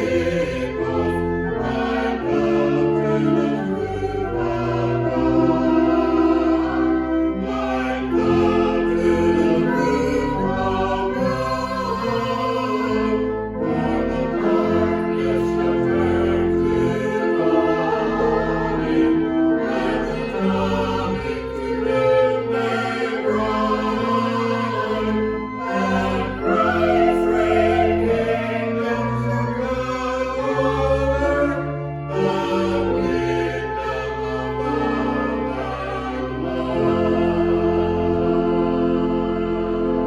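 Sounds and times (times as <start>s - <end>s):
choir singing sustained chords: 0.0s - 40.0s.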